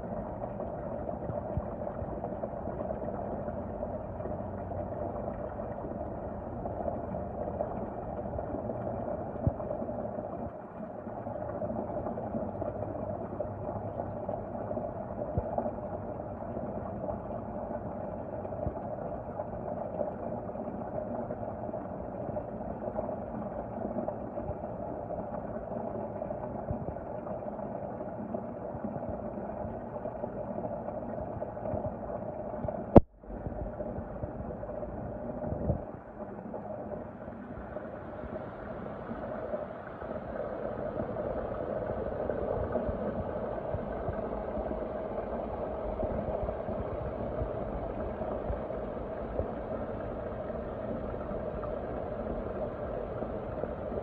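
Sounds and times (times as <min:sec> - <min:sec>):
muffled water rumble: 0:00.0 - 0:54.0.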